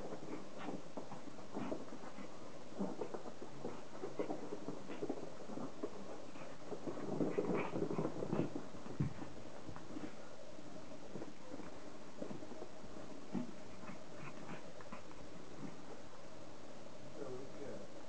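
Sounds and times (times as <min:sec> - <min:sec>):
paws rustling on a bedspread: 0:00.0 - 0:16.2.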